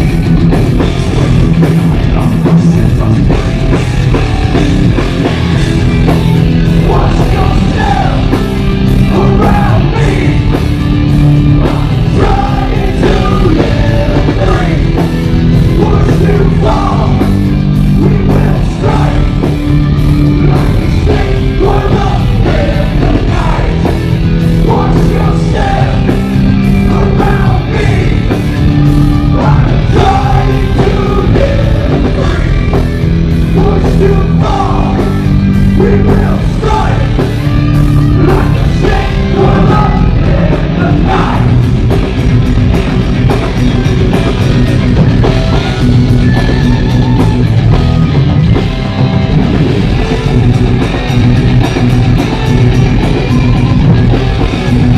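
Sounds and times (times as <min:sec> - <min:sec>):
heavy metal band playing live: 0:00.0 - 0:54.9.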